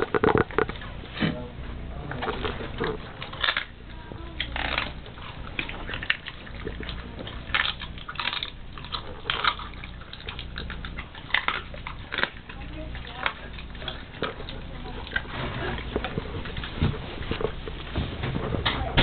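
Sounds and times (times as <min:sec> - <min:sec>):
dog chewing and crunching food: 0:00.0 - 0:19.0.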